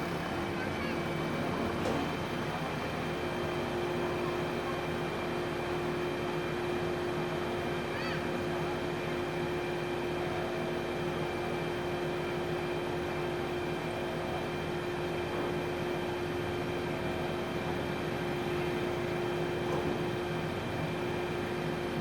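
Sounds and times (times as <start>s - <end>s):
heavy machinery humming: 0.0s - 22.0s.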